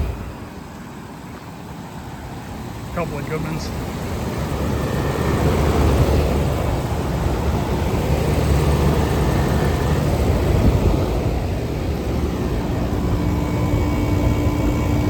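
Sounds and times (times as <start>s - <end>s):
air conditioner fan rushing: 0.0s - 15.0s.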